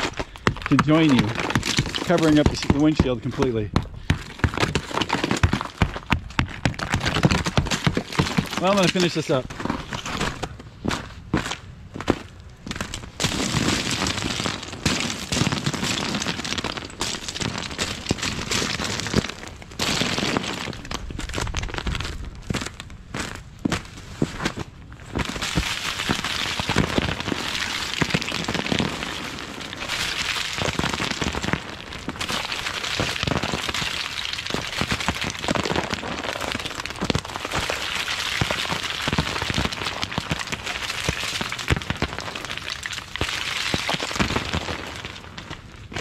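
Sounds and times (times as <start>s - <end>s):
footsteps crunching on ice: 0.0s - 46.0s
ice crackling and pattering: 0.0s - 46.0s.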